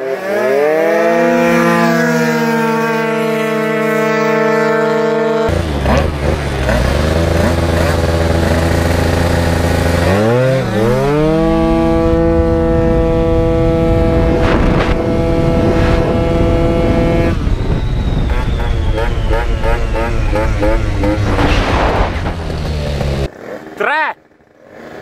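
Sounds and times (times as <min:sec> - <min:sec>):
scooter engine at high revs: 0:00.0 - 0:25.0
scooter howling past: 0:00.0 - 0:25.0.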